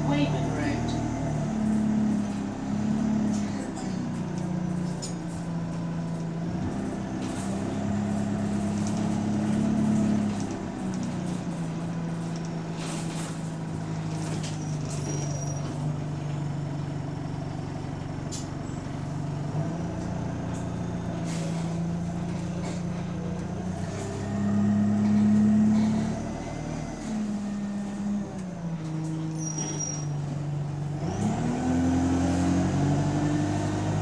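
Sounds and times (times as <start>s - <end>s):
bus diesel engine droning: 0.0s - 34.0s.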